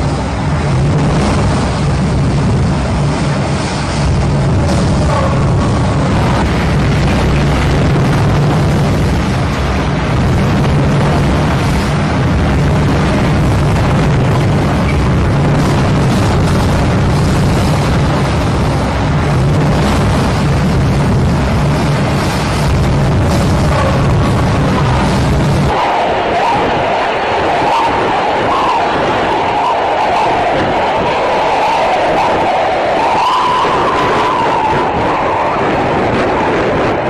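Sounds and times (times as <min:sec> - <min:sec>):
strong wind buffeting microphone: 0:00.0 - 0:37.0.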